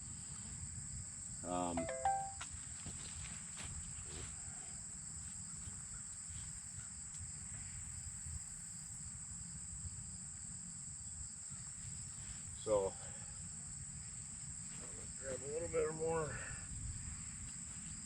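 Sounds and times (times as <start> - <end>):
insect chorus trilling: 0.2 - 2.2, 3.0 - 18.0.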